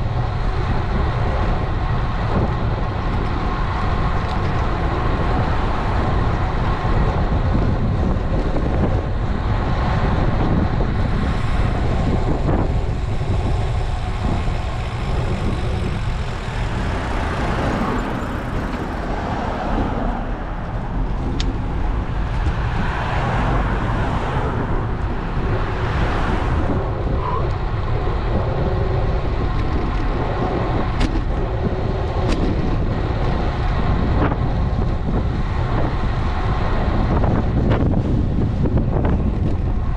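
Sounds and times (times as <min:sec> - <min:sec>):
vehicles passing: 0:00.0 - 0:39.9
wind and road rumble: 0:00.0 - 0:39.9.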